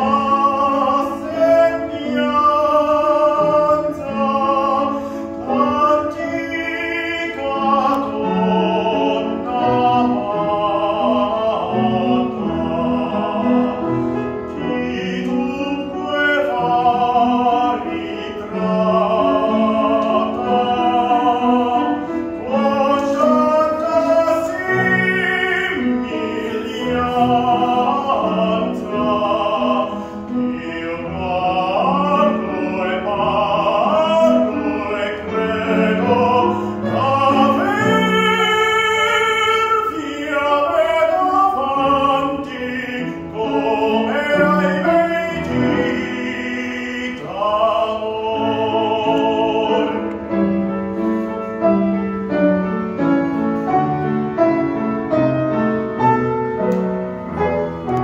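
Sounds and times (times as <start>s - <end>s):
man singing operatically: 0.0s - 50.3s.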